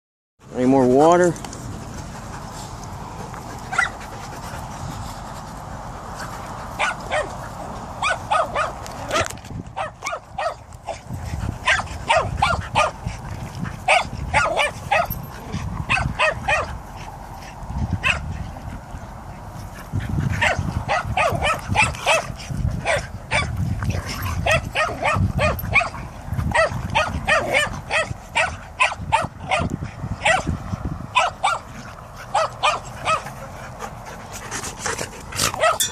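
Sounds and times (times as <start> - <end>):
dogs growling and barking: 5.7 - 35.9.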